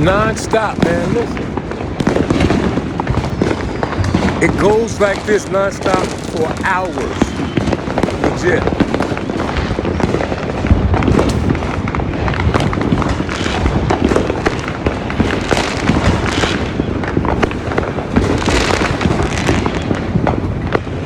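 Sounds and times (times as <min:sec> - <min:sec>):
fireworks and firecrackers exploding: 0:00.0 - 0:21.0.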